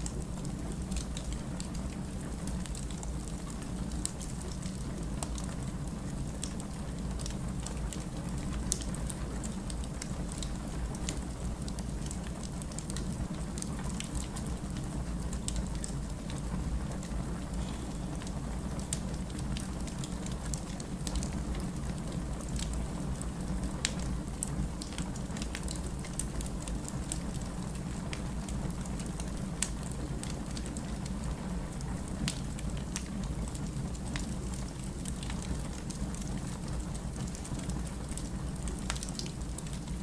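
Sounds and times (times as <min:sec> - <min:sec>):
firewood crackling and popping: 0:00.0 - 0:40.0.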